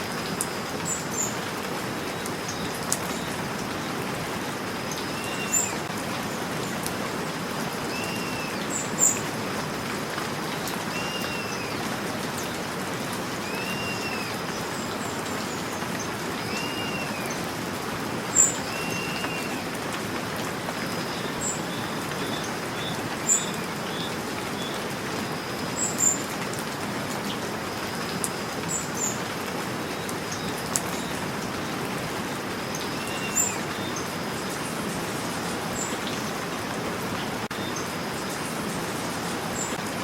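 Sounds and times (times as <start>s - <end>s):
small birds chirping: 0.0s - 26.6s, 27.2s - 39.8s
steady rain falling: 0.0s - 40.0s.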